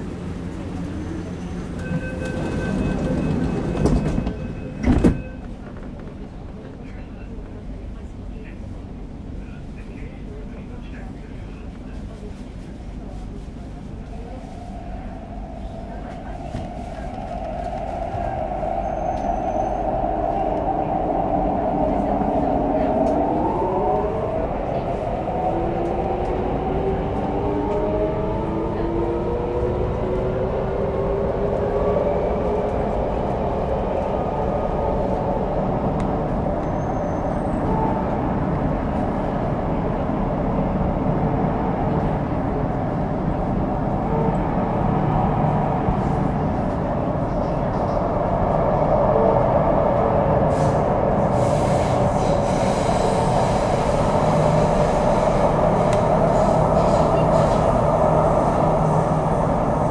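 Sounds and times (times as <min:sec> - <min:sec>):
train rumbling at speed: 0:00.0 - 0:59.9.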